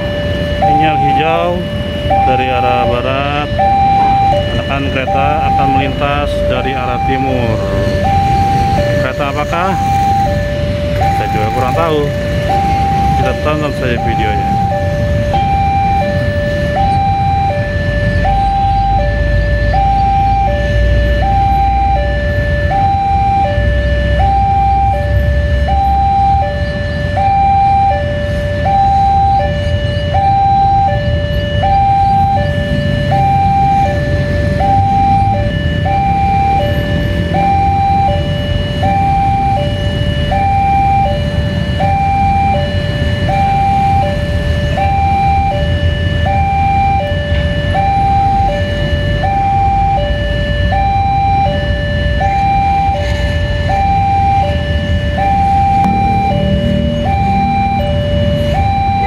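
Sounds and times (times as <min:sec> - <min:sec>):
two-tone crossing alarm: 0:00.0 - 0:59.0.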